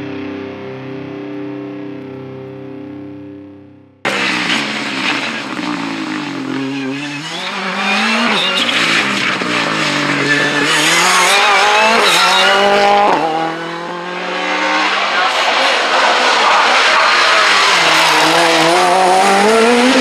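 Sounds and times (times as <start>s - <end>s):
rally car engine at full throttle: 0.0s - 20.0s.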